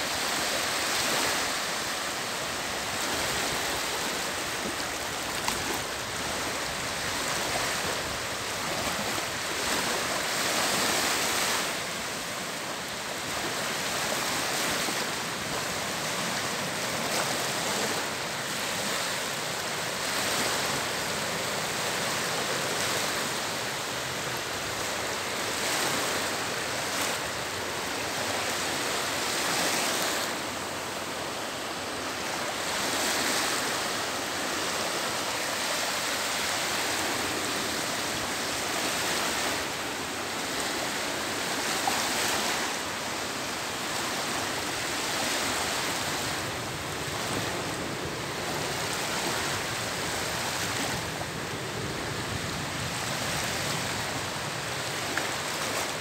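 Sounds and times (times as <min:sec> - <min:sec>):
small waves washing on shore: 0:00.0 - 0:56.0.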